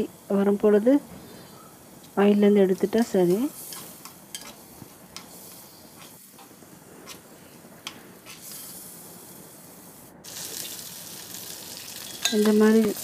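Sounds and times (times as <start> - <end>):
fish sizzling in oil: 1.8 - 13.0.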